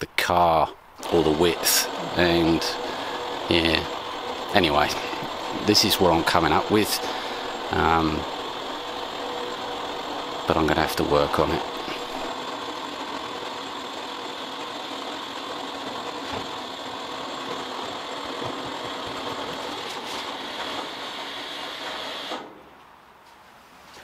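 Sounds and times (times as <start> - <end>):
electric winch motor running: 1.0 - 22.6.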